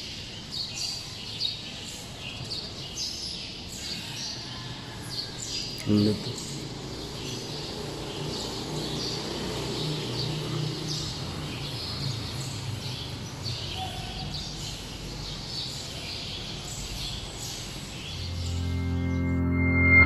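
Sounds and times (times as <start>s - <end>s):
small birds chirping: 0.0s - 18.7s.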